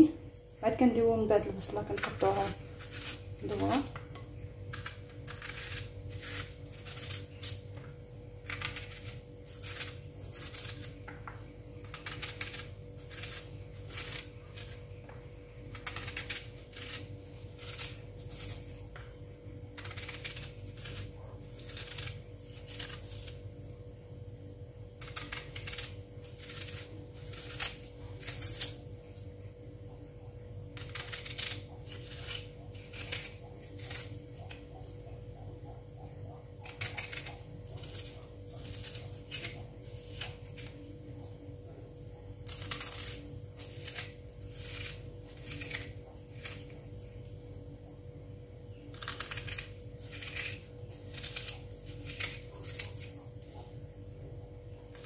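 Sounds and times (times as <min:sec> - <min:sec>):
faint steady hum: 0:00.0 - 0:55.0
knife slicing onion: 0:01.6 - 0:19.0, 0:19.7 - 0:23.5, 0:24.9 - 0:29.2, 0:30.7 - 0:41.0, 0:42.3 - 0:46.8, 0:48.9 - 0:53.8.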